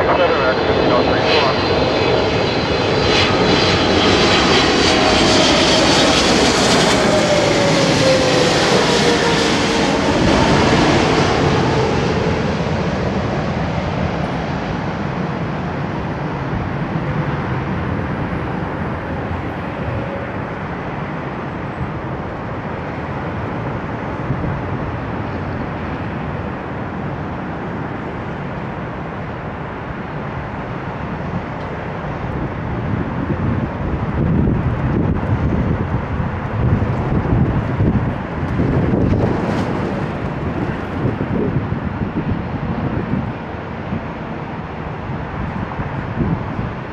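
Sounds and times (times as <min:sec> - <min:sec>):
jet engines passing overhead: 0:00.0 - 0:46.9.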